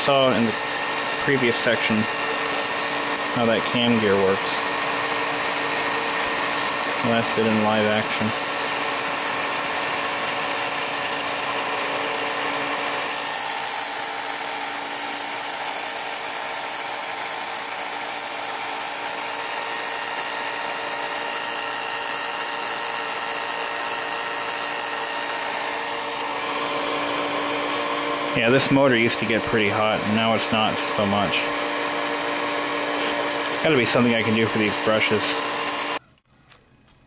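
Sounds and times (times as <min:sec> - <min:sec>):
movie projector whirring: 0:00.0 - 0:36.0.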